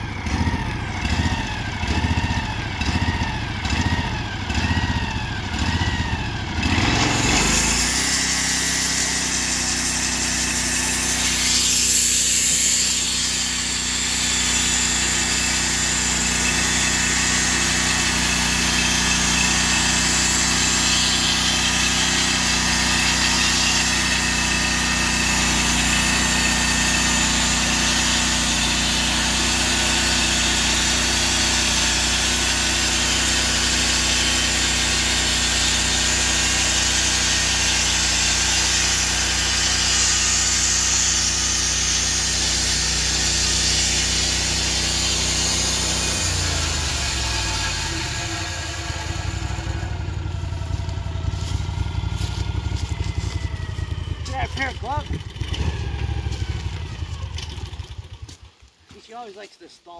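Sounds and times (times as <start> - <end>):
band sawmill engine running: 0.0 - 59.9.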